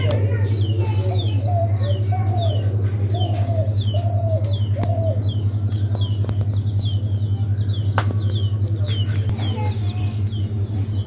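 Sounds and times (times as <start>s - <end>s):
birds chirping: 0.0s - 11.0s
steady low hum: 0.0s - 11.0s.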